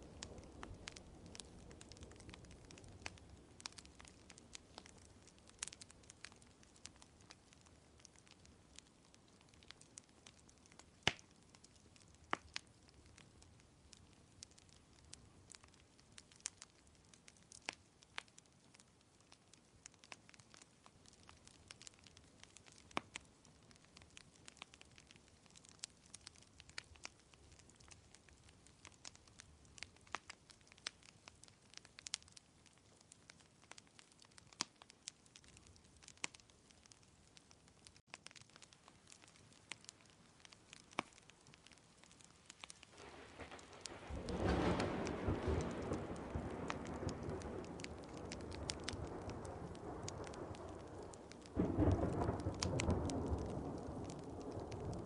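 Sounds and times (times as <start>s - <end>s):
faint steady hiss: 0.0s - 55.0s
sharp pops and snaps: 0.0s - 55.0s
wood fire crackling: 0.0s - 55.0s.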